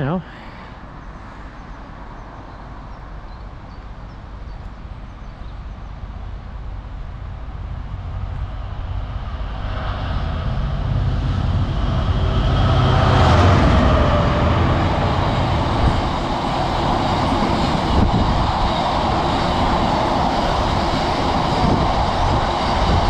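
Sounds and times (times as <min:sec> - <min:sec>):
diesel train engine rumble: 0:00.0 - 0:23.0
train wheel noise: 0:03.7 - 0:23.0.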